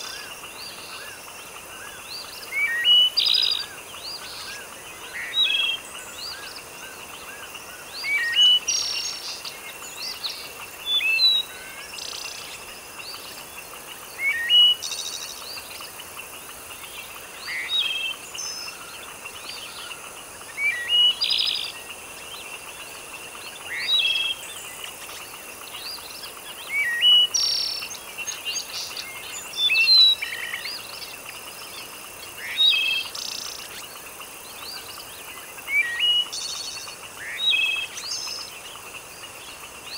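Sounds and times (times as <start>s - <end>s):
soft background hiss: 0.0s - 39.9s.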